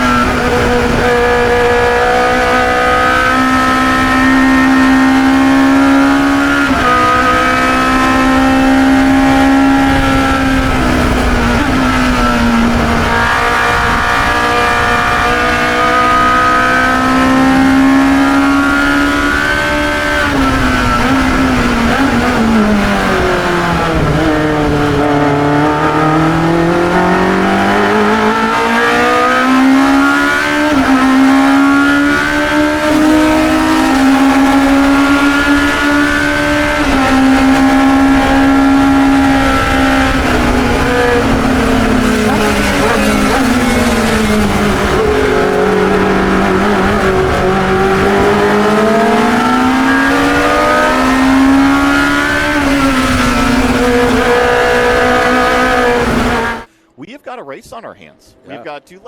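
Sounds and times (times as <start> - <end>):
racing car engine at high revs: 0.0 - 56.7.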